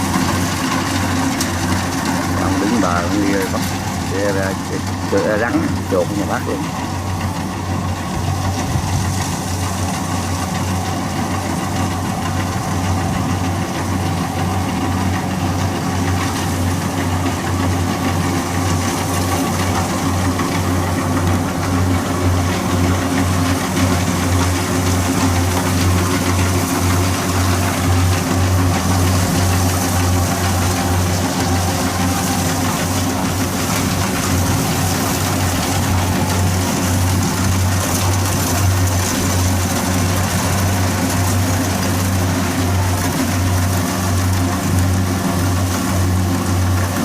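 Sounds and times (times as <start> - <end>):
diesel engine droning: 0.0 - 47.0.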